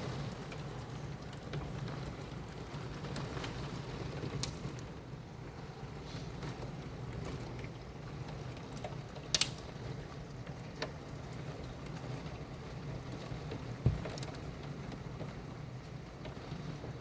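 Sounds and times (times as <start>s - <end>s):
hail downpour: 0.0s - 17.0s.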